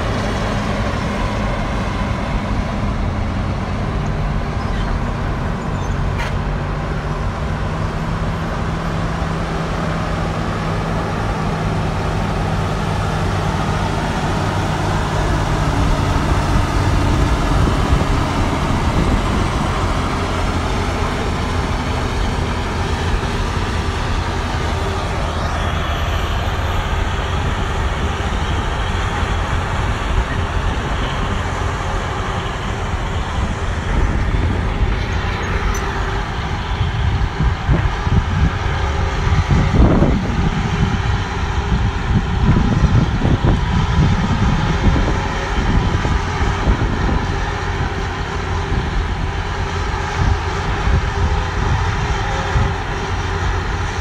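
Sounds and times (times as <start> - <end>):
hydraulic excavator working: 0.0 - 54.0
motor grader running: 0.0 - 54.0.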